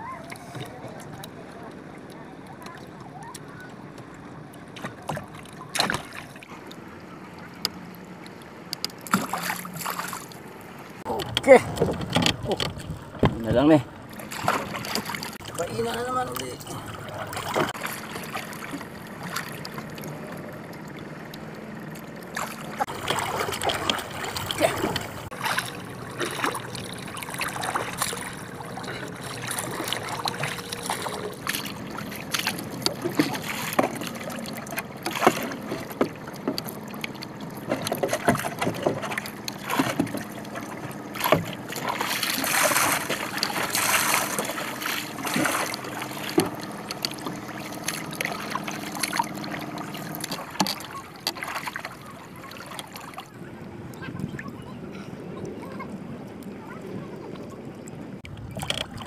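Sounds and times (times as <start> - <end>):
paddle splashing in water: 0.0 - 55.8, 56.6 - 59.0
water lapping: 0.0 - 59.0.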